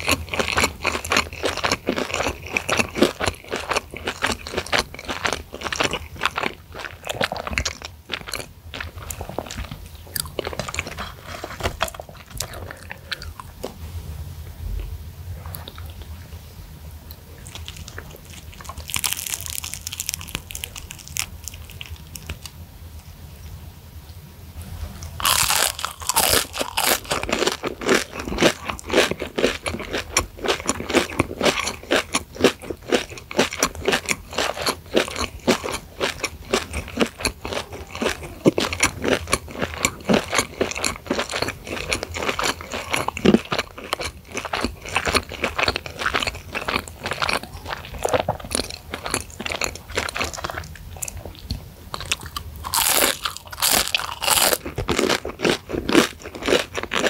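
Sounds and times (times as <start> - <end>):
person chewing crunchy chicken: 0.0 - 13.7, 17.3 - 22.5, 25.0 - 57.0.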